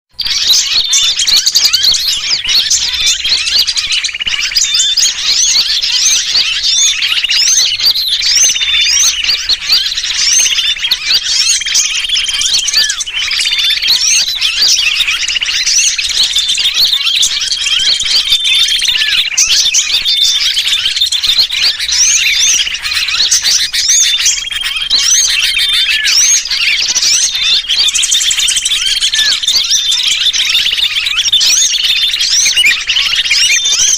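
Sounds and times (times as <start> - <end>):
bird distress calls: 0.1 - 33.9
small birds chattering and chirping: 0.1 - 33.9.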